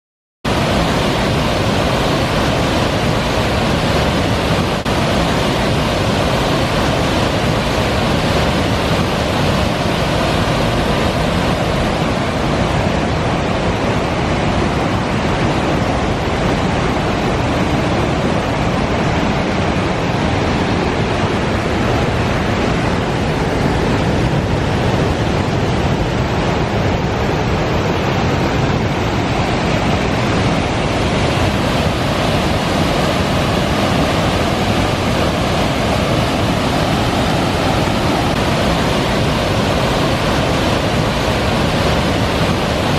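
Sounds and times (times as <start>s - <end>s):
waterfall roaring: 0.5s - 42.9s.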